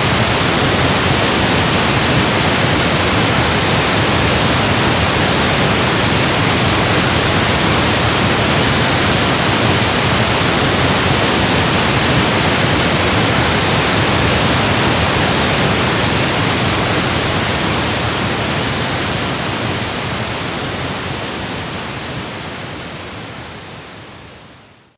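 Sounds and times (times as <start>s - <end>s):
pink noise hiss: 0.0s - 24.9s.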